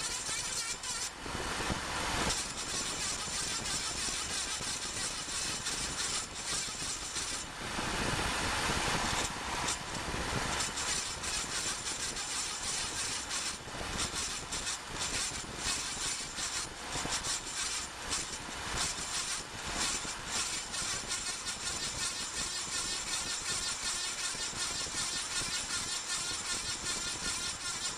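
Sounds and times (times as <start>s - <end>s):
rapid irregular ticking: 2.3s - 7.5s, 9.0s - 27.9s.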